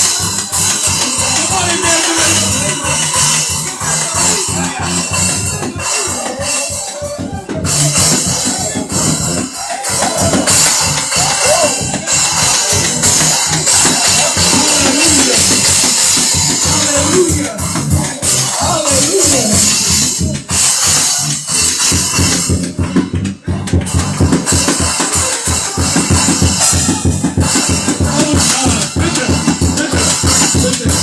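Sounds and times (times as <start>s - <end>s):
drum kit beat: 0.0s - 31.0s
live church music: 0.0s - 31.0s.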